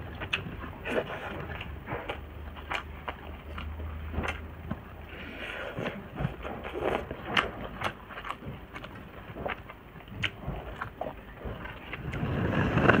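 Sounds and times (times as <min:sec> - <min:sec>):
chewing with mouth clicks: 0:00.0 - 0:13.0.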